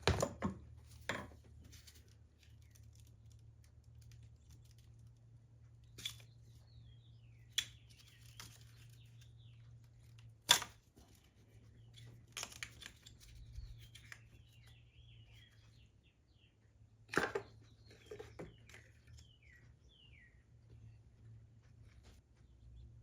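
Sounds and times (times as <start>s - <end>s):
small birds chirping: 0.8s - 23.0s.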